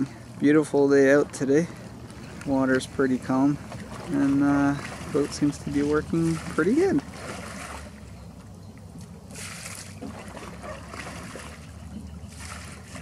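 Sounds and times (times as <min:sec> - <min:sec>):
oars splashing in water: 0:00.0 - 0:13.0
steady low rumble: 0:00.0 - 0:13.0.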